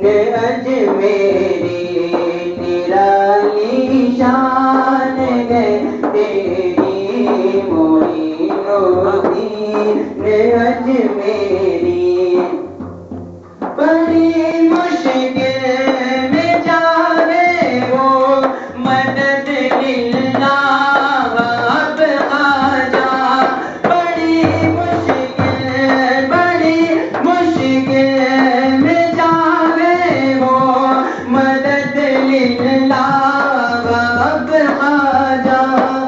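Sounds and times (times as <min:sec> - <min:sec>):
frame drum beat: 0:00.0 - 0:36.0
man singing devotional song: 0:00.0 - 0:36.0.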